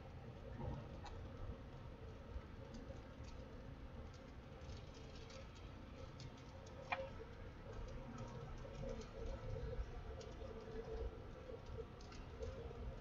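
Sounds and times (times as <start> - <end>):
faint ticks: 0.6 - 13.0.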